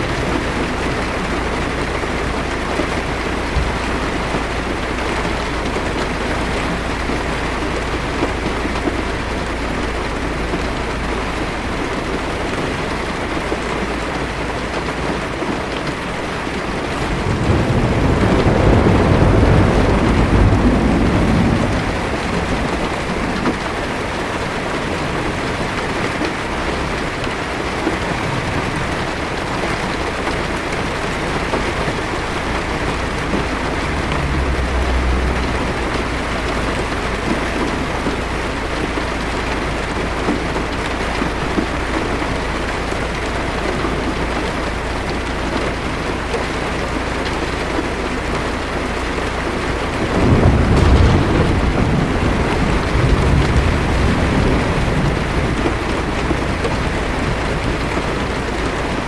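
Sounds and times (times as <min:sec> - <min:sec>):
heavy rain on car roof: 0:00.0 - 0:59.0
thunder rumbling: 0:00.0 - 0:59.0.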